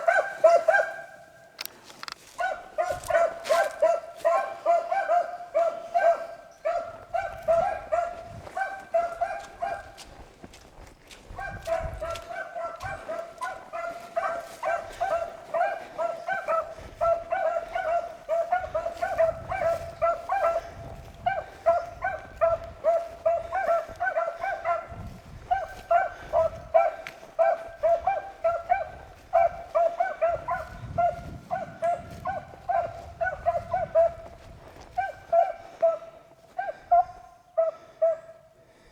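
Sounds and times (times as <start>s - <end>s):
hounds baying: 0.0s - 10.6s, 11.2s - 38.9s.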